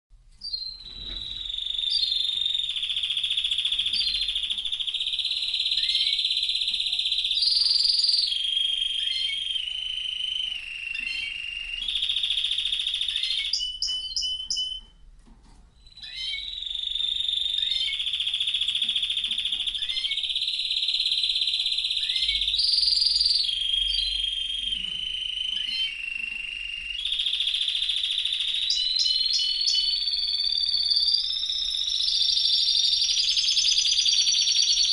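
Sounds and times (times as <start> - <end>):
canary singing trills: 0.4 - 15.0, 15.8 - 34.9.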